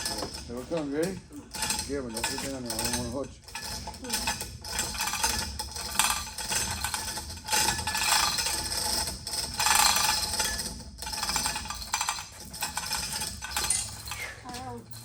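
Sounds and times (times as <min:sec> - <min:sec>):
metal rattling and clanking: 0:00.0 - 0:15.0.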